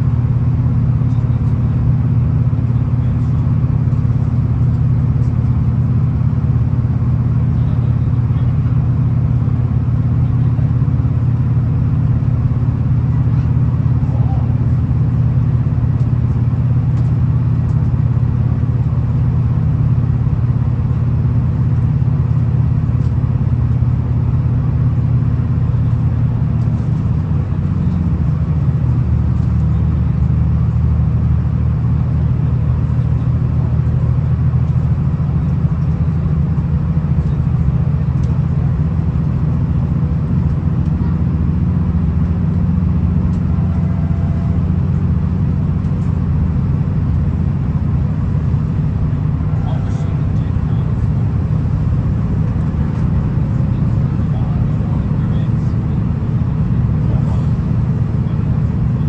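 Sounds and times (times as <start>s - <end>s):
train diesel engine rumble: 0.0s - 59.0s.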